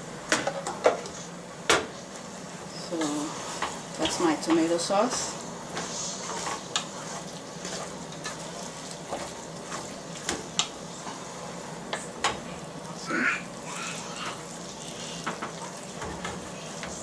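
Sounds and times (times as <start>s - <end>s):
chili sizzling: 0.0s - 17.0s.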